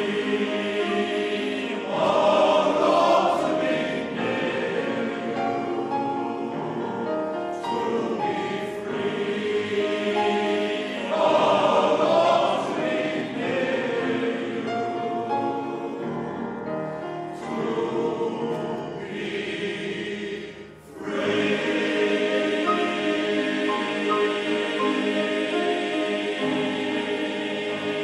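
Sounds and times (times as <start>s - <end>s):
male voice choir singing: 0.0s - 16.5s, 17.3s - 28.0s.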